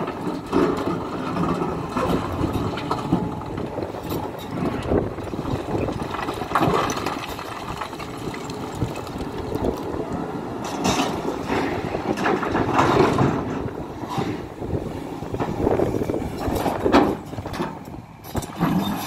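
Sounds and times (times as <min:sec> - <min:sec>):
excavator diesel engine working: 0:00.0 - 0:19.0.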